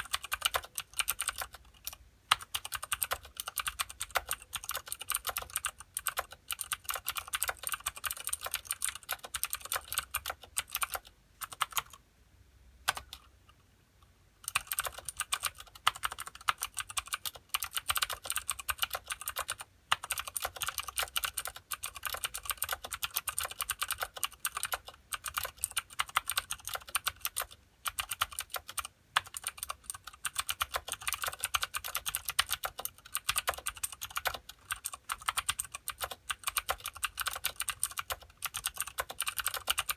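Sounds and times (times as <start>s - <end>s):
fast clicky keyboard typing: 0.0s - 12.0s, 12.9s - 13.3s, 14.4s - 39.9s.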